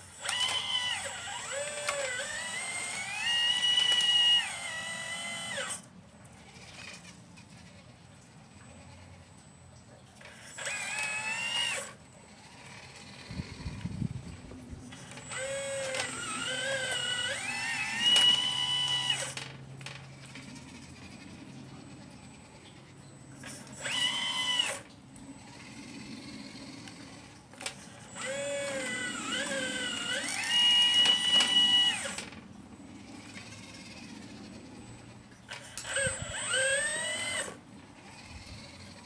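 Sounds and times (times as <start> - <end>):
model excavator motor whine: 0.0 - 39.0.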